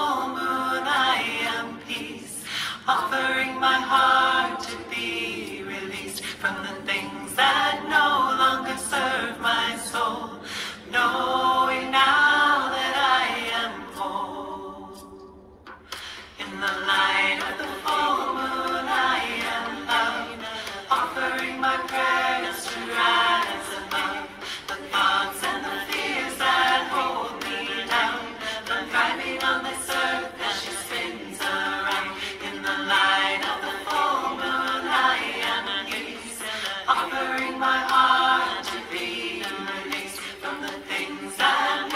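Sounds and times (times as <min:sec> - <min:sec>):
a cappella group singing: 0:00.0 - 0:41.9.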